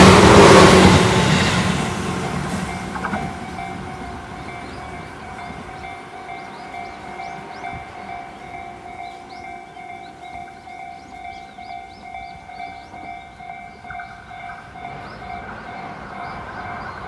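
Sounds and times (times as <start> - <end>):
electric train passing: 0.0 - 17.0
level crossing warning bell: 0.9 - 17.0.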